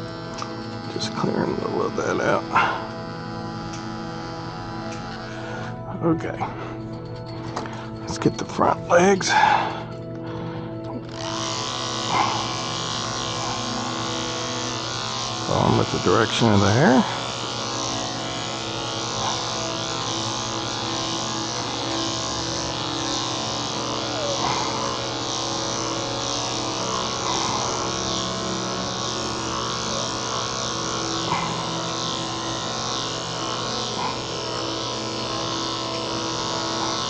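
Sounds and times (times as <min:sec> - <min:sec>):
electric clippers buzzing: 0:00.0 - 0:37.0.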